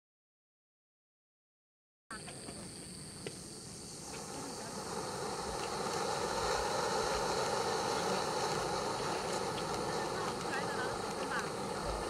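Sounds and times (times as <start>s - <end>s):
crickets chirring: 2.1s - 12.0s
firework hissing: 2.1s - 12.0s
firework tick: 2.2s - 12.0s.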